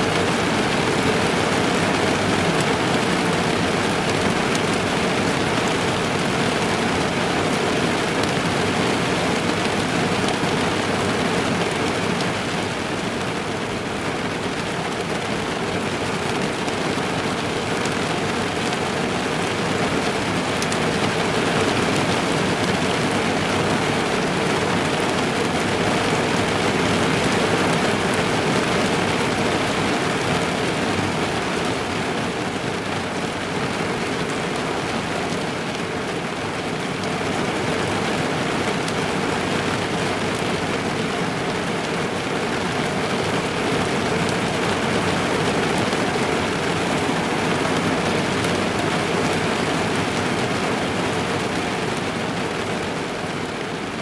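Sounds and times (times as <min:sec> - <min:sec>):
rain drumming on car roof: 0:00.1 - 0:54.0.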